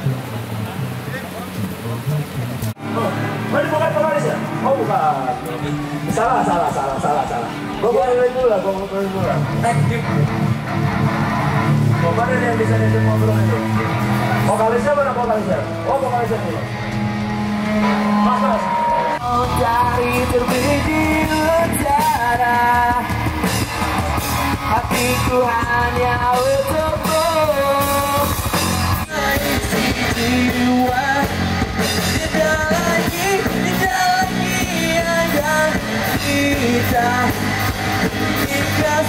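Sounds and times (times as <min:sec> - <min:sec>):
rock music with singing: 0:02.8 - 0:39.0.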